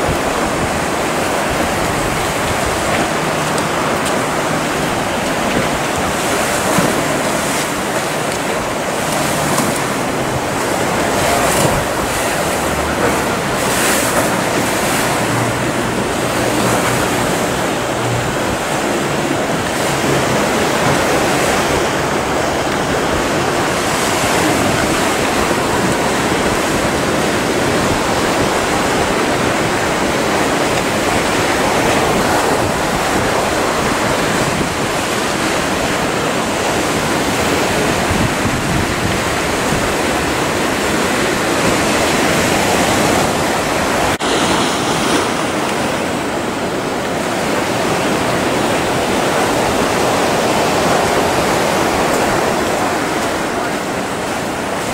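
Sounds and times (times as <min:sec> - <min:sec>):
waves breaking and churning: 0:00.0 - 0:54.9.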